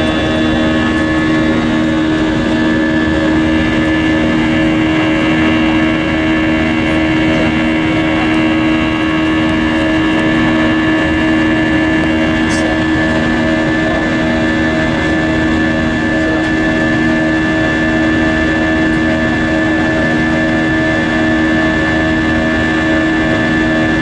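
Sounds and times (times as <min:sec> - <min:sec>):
jet engine noise in aircraft cabin: 0:00.0 - 0:24.0.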